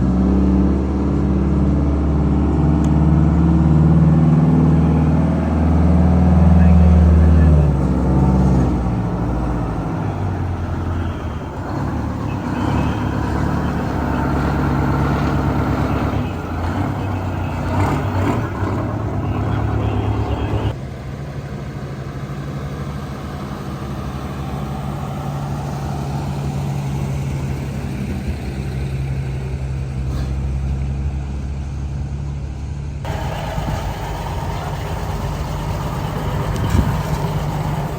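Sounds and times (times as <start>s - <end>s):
low engine note: 0.0s - 37.9s
truck engines driving by: 0.0s - 37.9s.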